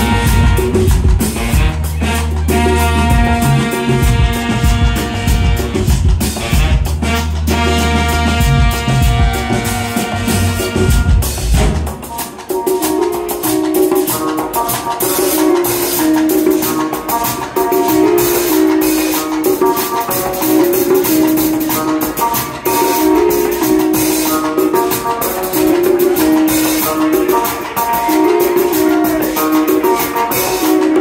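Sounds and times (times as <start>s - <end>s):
live band instrumental groove: 0.0s - 31.0s
shaker-like percussion: 0.0s - 31.0s.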